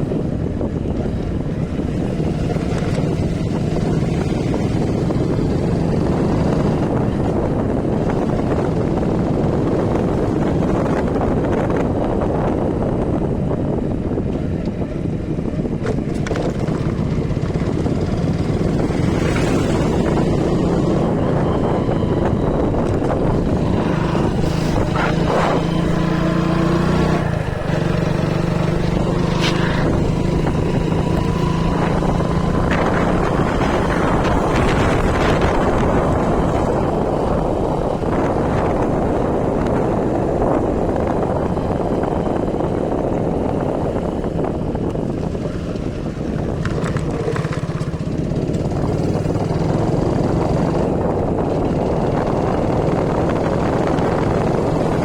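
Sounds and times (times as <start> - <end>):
engine hum: 0.0 - 55.0
vehicle road noise: 0.0 - 55.0
wind buffeting microphone: 0.0 - 55.0.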